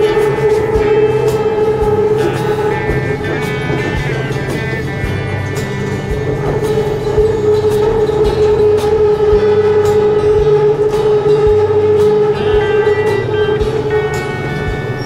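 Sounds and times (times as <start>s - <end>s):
electric train motor whine: 0.0s - 15.0s.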